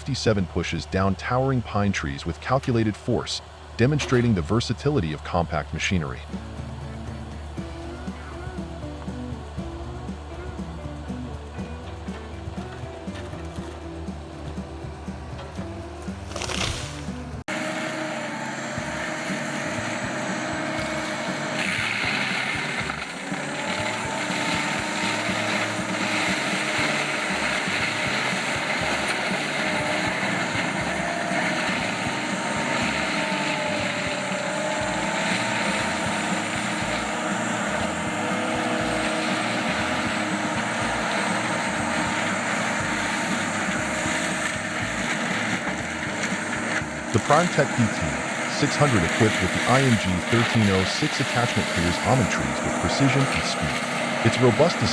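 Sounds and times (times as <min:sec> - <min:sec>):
heavy diesel machinery running: 0:00.0 - 0:54.9
wavering whine: 0:00.0 - 0:54.9.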